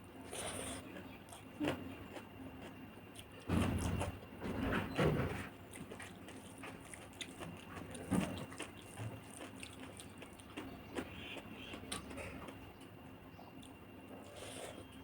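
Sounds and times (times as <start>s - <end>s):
chewing: 0.1s - 4.4s, 5.4s - 15.0s.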